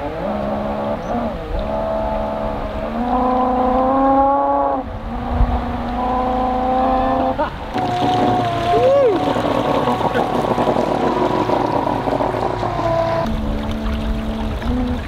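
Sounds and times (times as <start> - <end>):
electric outboard motor whining: 0.0 - 15.0.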